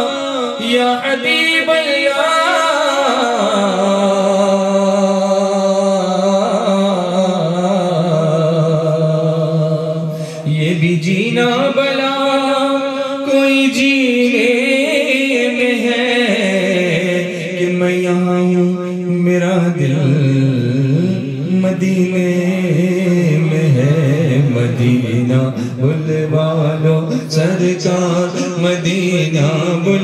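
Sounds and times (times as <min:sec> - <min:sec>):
man singing unaccompanied: 0:00.0 - 0:30.0.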